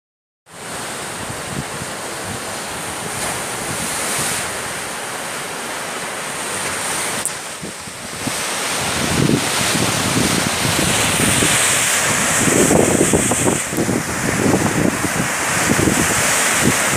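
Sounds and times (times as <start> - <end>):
sea surf washing on shore: 0.5 - 16.9
wind buffeting microphone: 0.6 - 4.9, 7.3 - 16.9.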